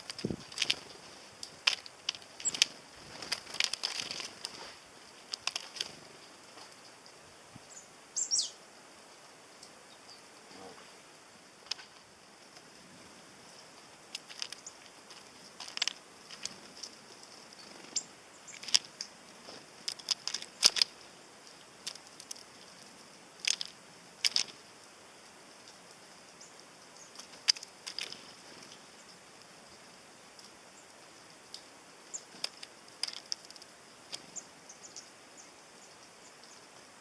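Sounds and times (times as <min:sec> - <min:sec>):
beaks pecking seeds: 0:00.0 - 0:08.6, 0:11.5 - 0:36.8.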